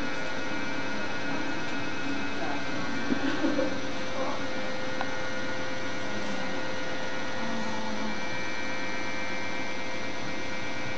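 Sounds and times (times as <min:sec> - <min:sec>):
electrical hum with hiss: 0:00.0 - 0:10.9.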